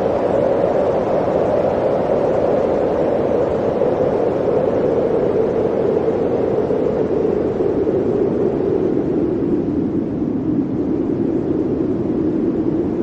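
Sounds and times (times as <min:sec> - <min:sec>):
blizzard wind howling: 0:00.0 - 0:13.0.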